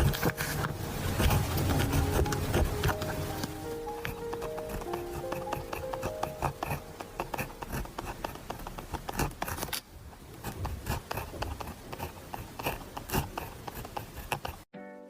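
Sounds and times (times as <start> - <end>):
pen tapping: 0.0 - 9.8, 10.4 - 14.6
pen scratching on paper: 0.0 - 14.7.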